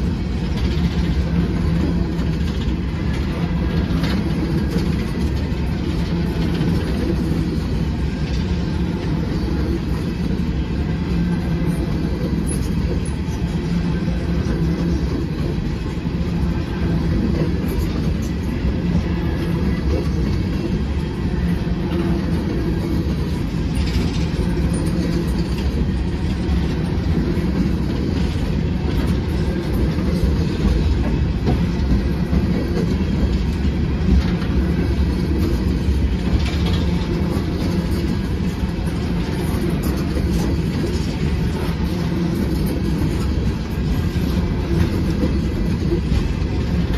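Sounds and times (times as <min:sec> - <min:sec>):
steel wheels rumbling on rails: 0:00.0 - 0:46.9.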